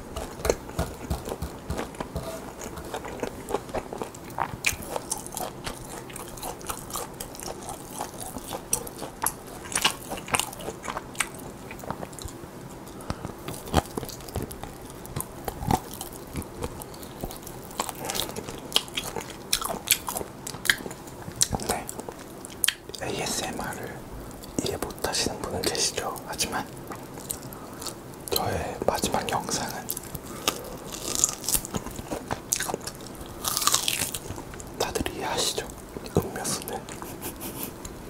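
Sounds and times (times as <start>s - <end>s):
person chewing meat: 0.0s - 38.0s.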